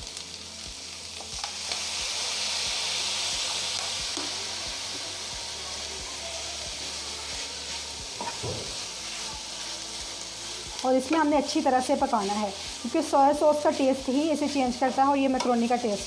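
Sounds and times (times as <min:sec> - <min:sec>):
chicken sizzling in frying pan: 0:00.0 - 0:16.0.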